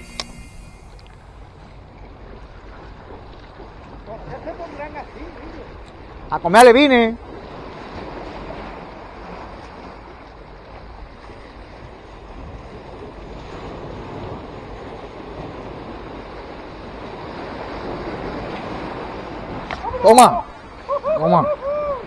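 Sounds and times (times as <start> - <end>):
wind buffeting microphone: 1.4 - 22.0.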